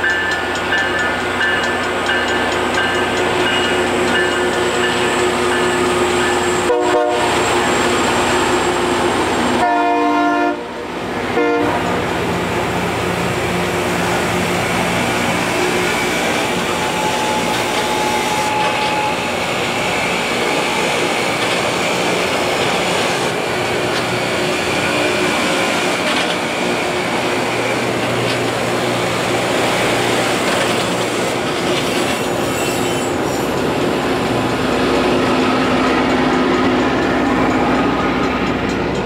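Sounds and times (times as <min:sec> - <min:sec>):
train cars rumbling over track: 0:00.0 - 0:39.0.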